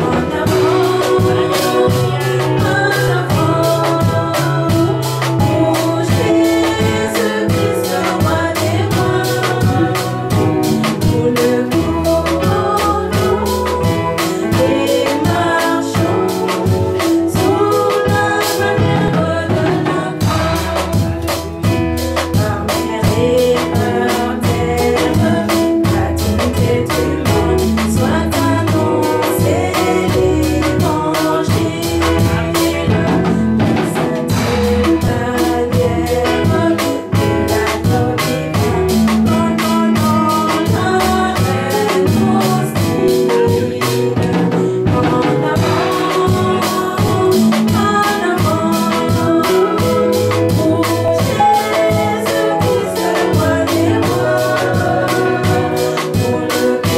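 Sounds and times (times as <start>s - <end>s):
drums keeping a steady beat: 0.0s - 56.9s
live band accompaniment: 0.0s - 56.9s
woman singing a hymn: 0.0s - 56.9s.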